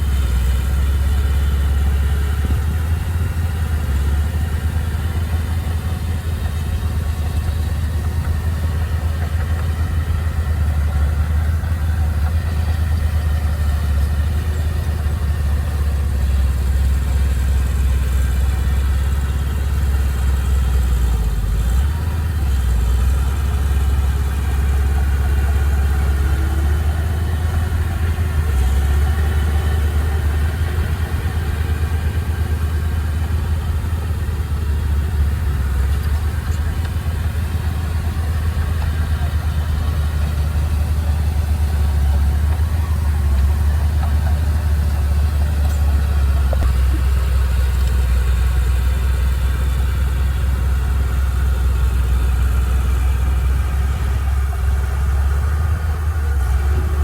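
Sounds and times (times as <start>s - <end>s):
heavy machine diesel engine drone: 0.0s - 57.0s.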